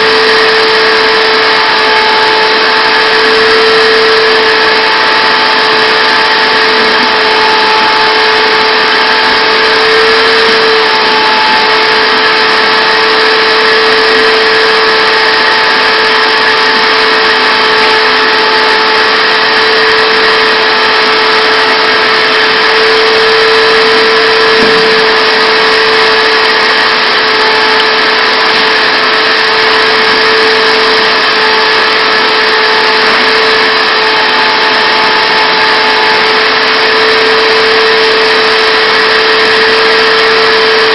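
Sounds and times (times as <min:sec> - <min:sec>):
shop vacuum running: 0:00.0 - 0:40.9.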